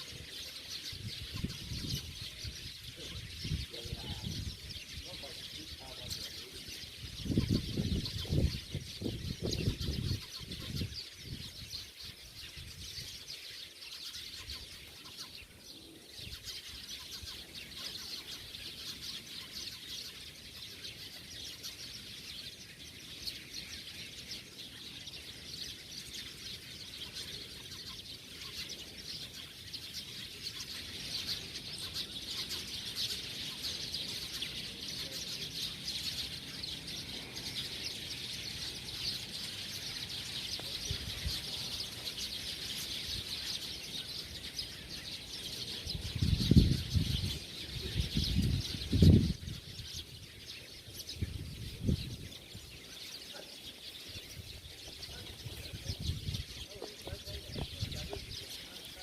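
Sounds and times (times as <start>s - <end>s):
flock of birds chirping: 0.0s - 59.0s.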